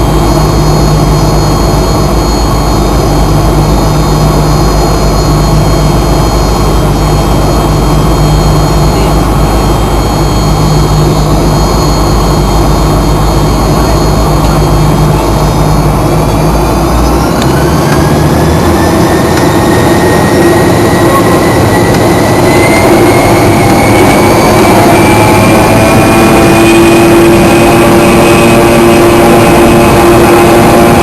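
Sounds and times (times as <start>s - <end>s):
engine whine: 0.0s - 31.0s
jet engine rush in cabin: 0.0s - 31.0s
low engine hum: 0.0s - 31.0s.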